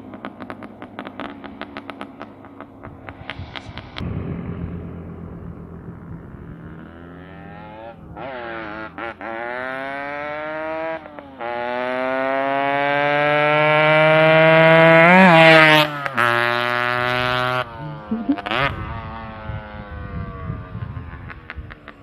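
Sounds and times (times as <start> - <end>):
two-stroke motorcycle engine revving: 0.0 - 4.1, 5.8 - 22.0.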